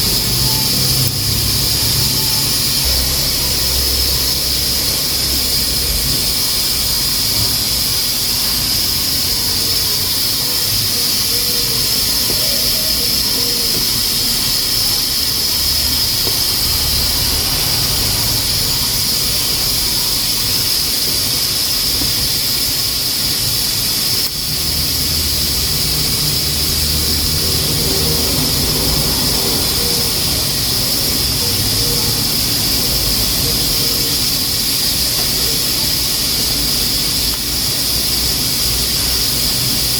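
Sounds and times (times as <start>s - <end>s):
high steady whistling: 0.0s - 39.9s
pressure cooker steam hissing: 0.0s - 39.9s.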